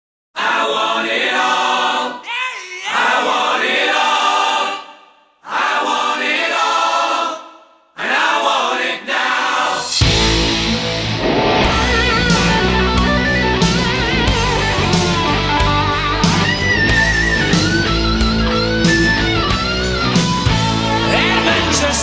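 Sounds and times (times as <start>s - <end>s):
choir singing held chords: 0.4s - 22.0s.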